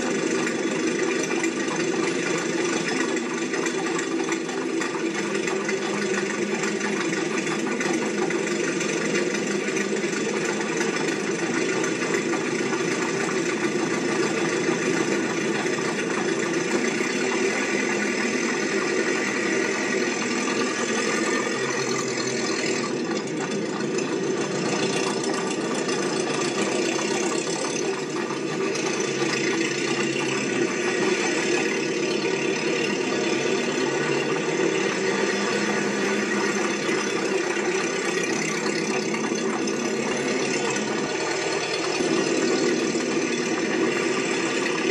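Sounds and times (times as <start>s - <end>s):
mechanical running noise with rattle: 0.0s - 44.9s.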